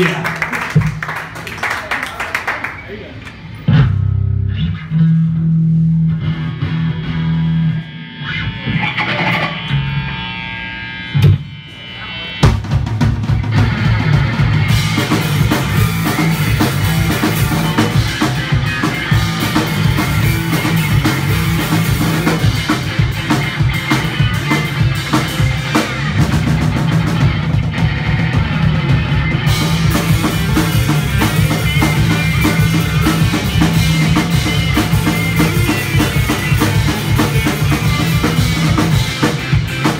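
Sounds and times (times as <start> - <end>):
punk rock band playing: 2.7 - 39.9.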